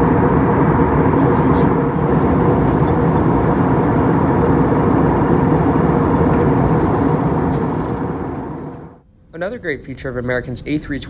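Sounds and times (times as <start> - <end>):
airplane cabin airflow and engine: 0.0 - 9.4
faint steady hum: 0.0 - 11.0.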